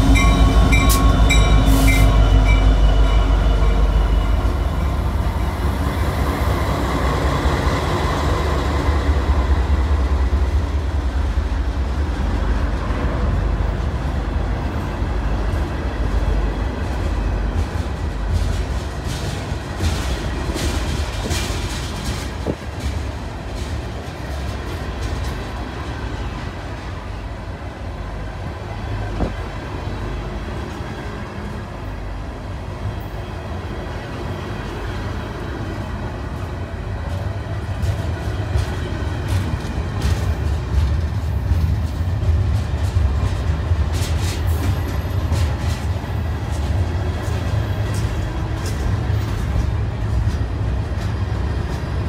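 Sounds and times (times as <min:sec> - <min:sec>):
train wheels and couplings knocking: 0:00.0 - 0:27.3, 0:32.4 - 0:52.0
diesel locomotive rumble: 0:00.0 - 0:52.0.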